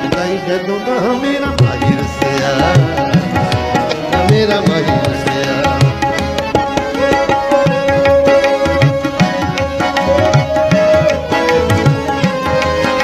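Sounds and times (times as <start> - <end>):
bowed string instrument: 0.0 - 13.0
harmonium: 0.0 - 13.0
tabla rhythm: 0.0 - 13.0.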